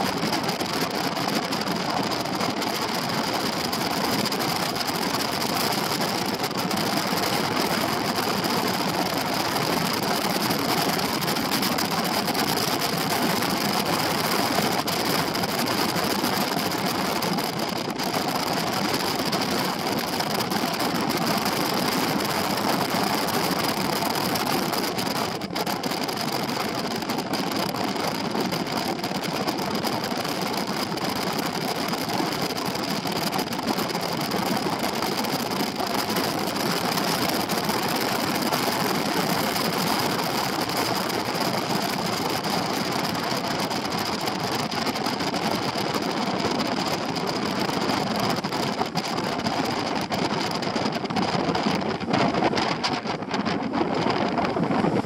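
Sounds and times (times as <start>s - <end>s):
wind noise: 0.0s - 55.0s.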